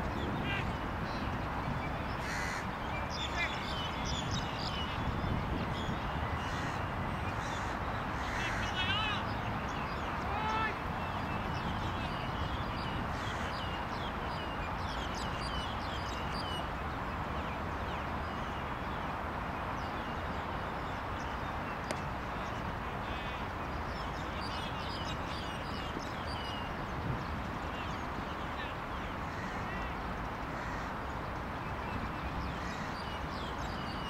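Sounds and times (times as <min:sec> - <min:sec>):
outdoor background hiss: 0:00.0 - 0:34.0
small birds chirping: 0:00.0 - 0:34.0.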